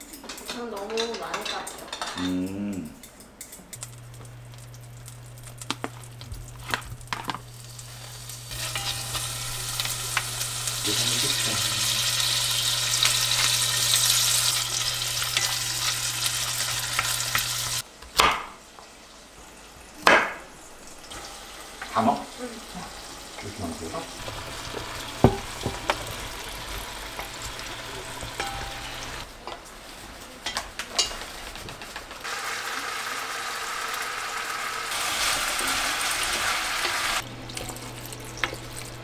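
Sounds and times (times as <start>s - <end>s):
food sizzling in a pan: 3.8s - 17.9s, 18.6s - 39.0s.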